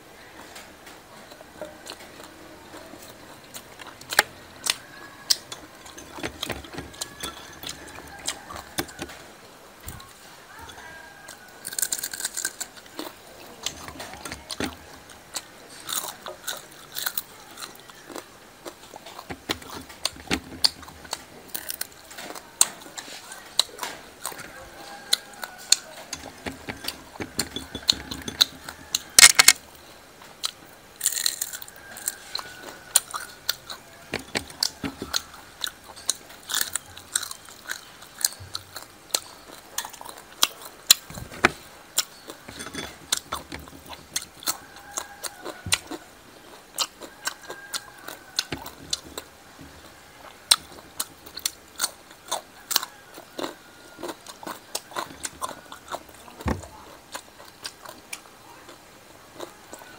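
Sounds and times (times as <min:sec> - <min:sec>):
person chewing crunchy food: 0:01.2 - 0:09.2, 0:09.8 - 0:59.9.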